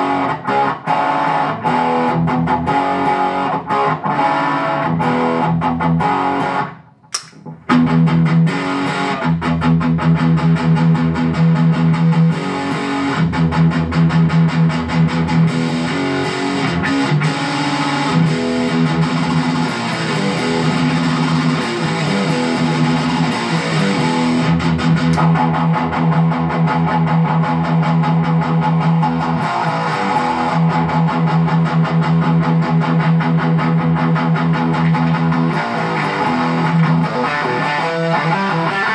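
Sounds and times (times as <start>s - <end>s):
overdriven electric guitar riff: 0.0s - 38.9s.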